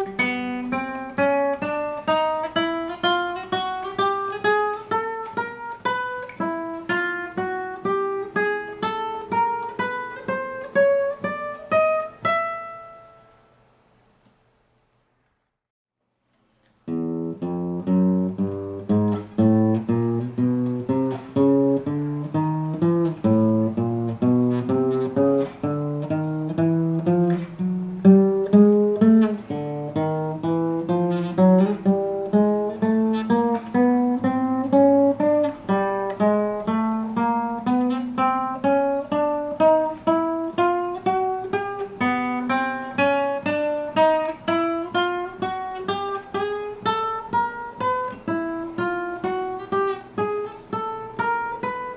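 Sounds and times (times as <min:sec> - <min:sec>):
acoustic guitar plucked notes: 0:00.0 - 0:13.5, 0:16.8 - 0:51.9.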